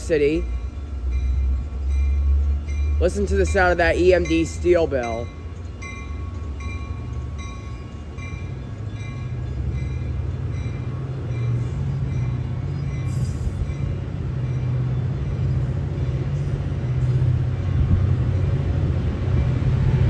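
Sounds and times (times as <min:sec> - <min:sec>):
locomotive bell ringing: 0:00.0 - 0:18.6
low rumble of passing train: 0:00.0 - 0:20.0.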